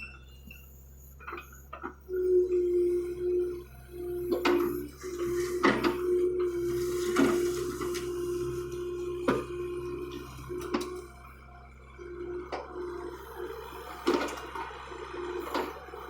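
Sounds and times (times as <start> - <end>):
excavator whining: 0.0 - 16.0.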